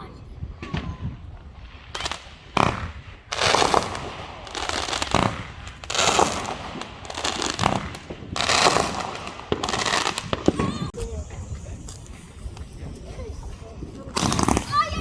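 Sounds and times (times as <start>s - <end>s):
fireworks crackling bursts: 0.0s - 15.0s
fireworks fizzing tail: 0.0s - 15.0s.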